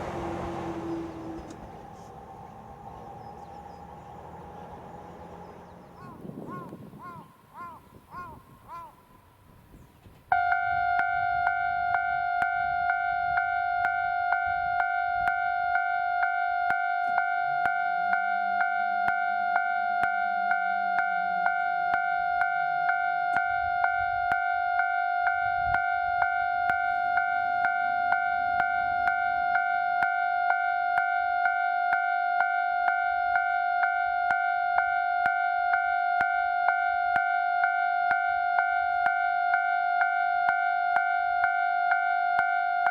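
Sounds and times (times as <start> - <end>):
level crossing warning bell: 0.0 - 6.4, 10.3 - 42.9.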